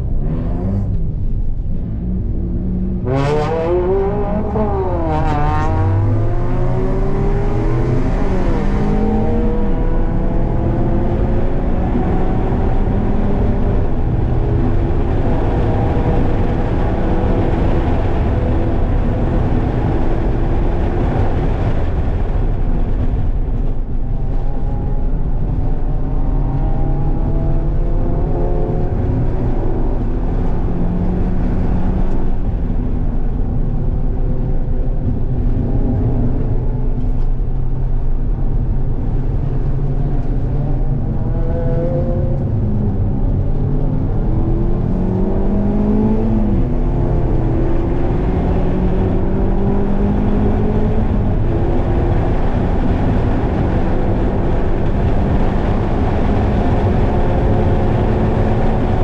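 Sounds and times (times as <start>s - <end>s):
car engine revving: 0.0s - 59.0s
tyre and wind noise: 0.0s - 59.0s.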